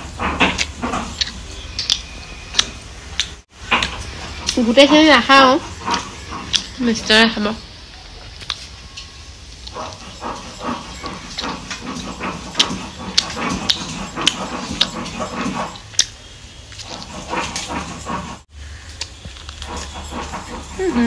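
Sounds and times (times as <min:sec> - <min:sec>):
chewing and lip-smacking: 0:00.4 - 0:04.6, 0:05.8 - 0:06.8, 0:08.4 - 0:08.8, 0:09.6 - 0:21.0.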